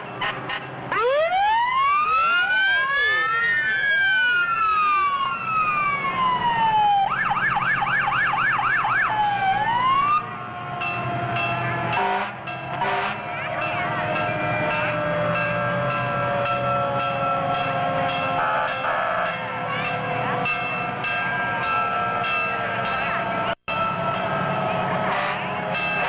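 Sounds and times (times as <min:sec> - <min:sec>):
fire truck siren: 0:00.0 - 0:26.0.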